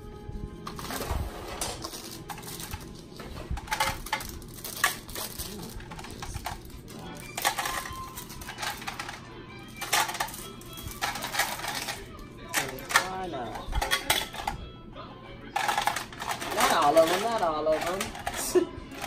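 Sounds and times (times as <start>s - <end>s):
plastic hair clips clattering: 1.7s - 14.6s, 15.6s - 19.0s.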